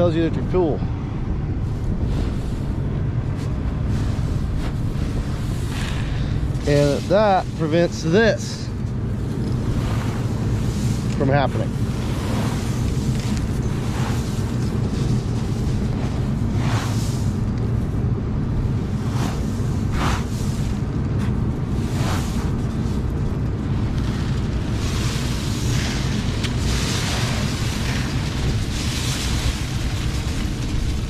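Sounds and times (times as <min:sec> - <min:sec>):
combine harvester drone: 0:00.0 - 0:31.0.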